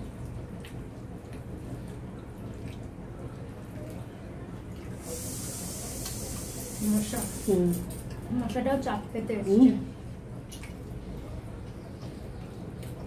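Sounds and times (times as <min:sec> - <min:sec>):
people eating by hand: 0:00.0 - 0:13.0
room hum: 0:00.0 - 0:13.0.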